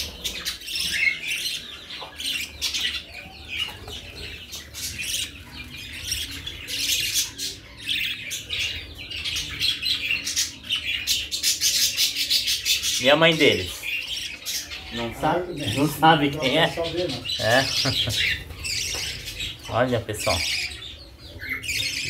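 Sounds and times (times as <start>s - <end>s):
budgerigars chattering: 0.0s - 22.0s.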